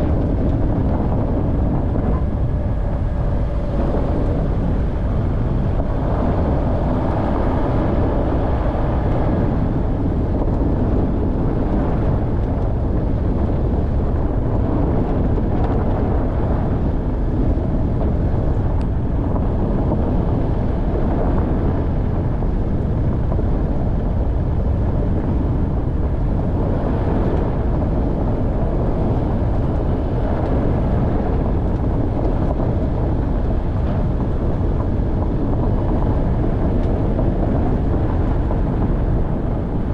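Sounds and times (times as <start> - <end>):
off-road vehicle driving: 0.0 - 39.9.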